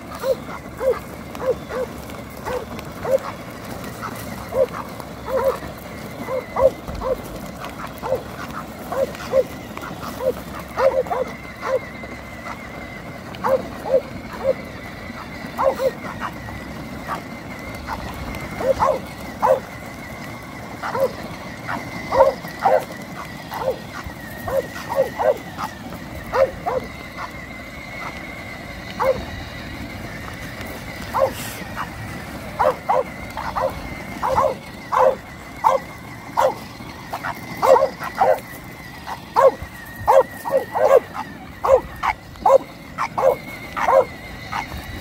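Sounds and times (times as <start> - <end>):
bulldog barking and yipping: 0.0 - 29.6, 30.2 - 45.0
high electric motor whine: 0.0 - 45.0
wheels rolling over gravel: 0.0 - 45.0.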